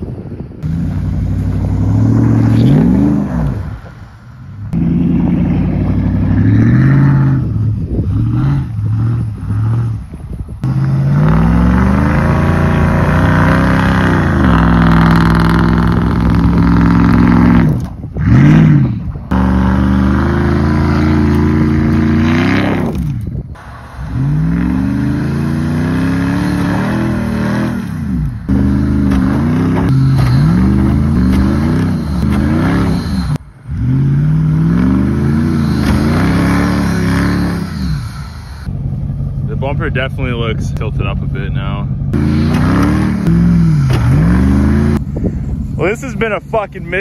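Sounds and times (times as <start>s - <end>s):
truck engine revving hard: 0.6s - 3.9s, 4.7s - 38.7s, 41.2s - 47.0s.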